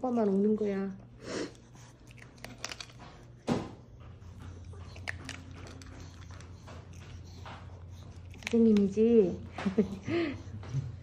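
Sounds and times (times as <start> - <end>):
dog chewing food: 0.3 - 10.0.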